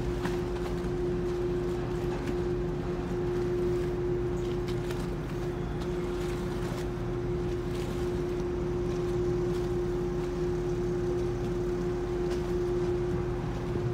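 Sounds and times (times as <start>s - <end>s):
ferry engines rumbling: 0.0s - 13.9s
steady machinery tone: 0.0s - 13.9s.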